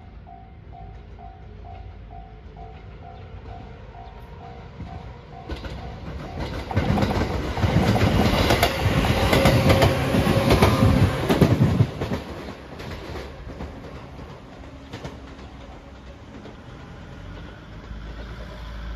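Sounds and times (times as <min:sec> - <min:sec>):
train wheels clacking over rail joints: 0:00.9 - 0:18.9.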